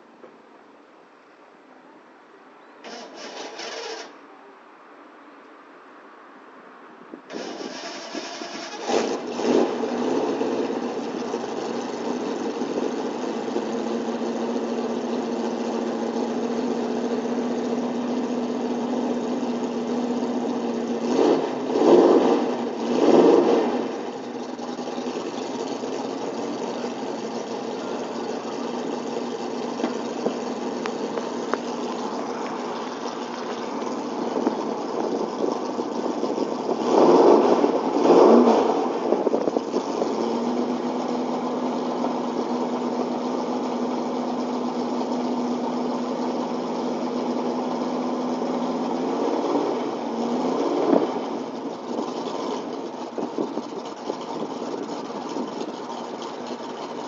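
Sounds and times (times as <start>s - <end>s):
car engine idling and revving: 2.8s - 4.2s, 7.1s - 57.0s.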